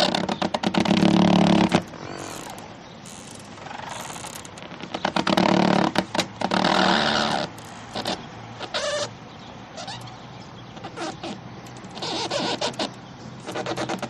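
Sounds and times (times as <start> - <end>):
boat creaking: 0.0 - 14.0.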